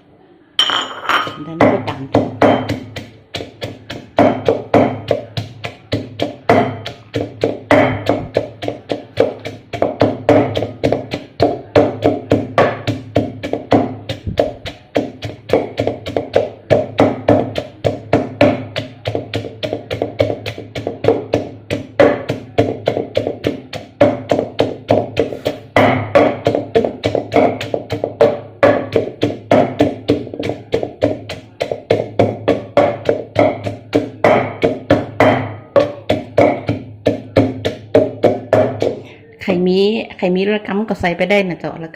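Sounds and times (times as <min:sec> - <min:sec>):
pestle pounding in mortar: 0:00.6 - 0:39.1.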